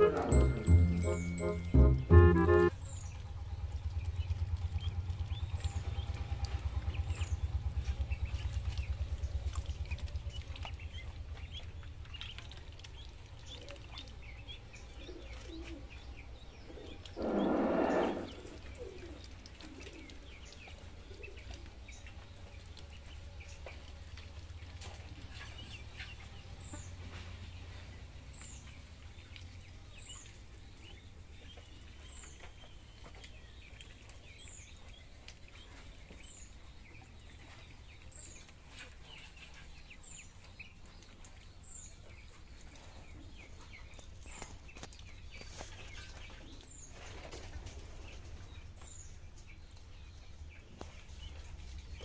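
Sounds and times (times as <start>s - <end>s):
ducklings peeping: 0.0s - 3.1s, 4.0s - 52.0s.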